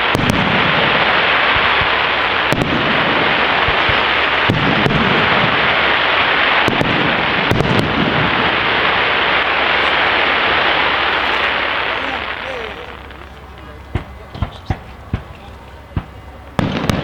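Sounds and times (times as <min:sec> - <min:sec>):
fireworks bursting rumble: 0:00.0 - 0:17.0
sharp firework bangs: 0:00.0 - 0:17.0.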